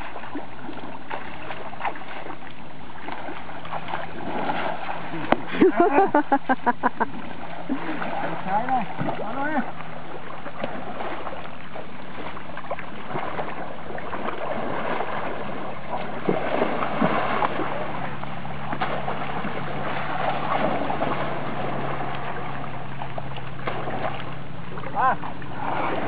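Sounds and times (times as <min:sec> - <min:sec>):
water splashing and churning: 0:00.0 - 0:26.0.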